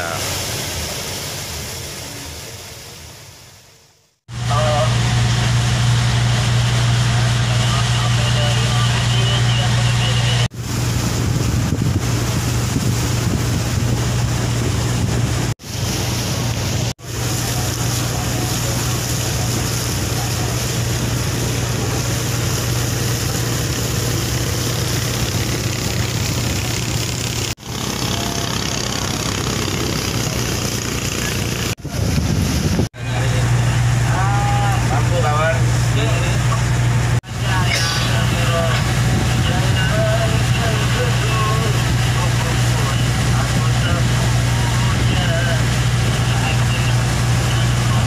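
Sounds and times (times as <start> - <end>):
boat engine droning: 0.0 - 48.0
water and wind rushing: 0.0 - 48.0.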